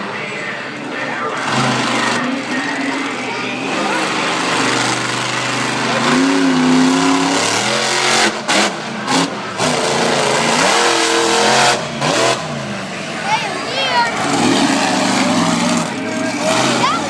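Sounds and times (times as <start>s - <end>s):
truck engine revving hard: 1.1s - 17.0s.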